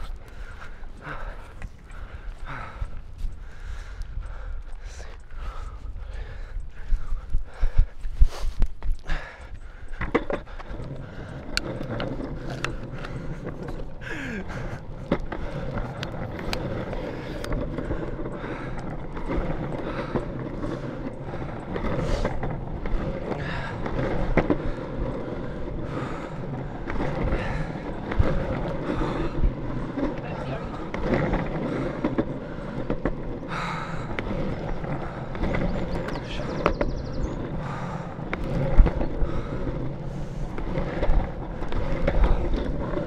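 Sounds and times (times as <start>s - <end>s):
skateboard wheels rolling on pavement: 0.0s - 43.0s.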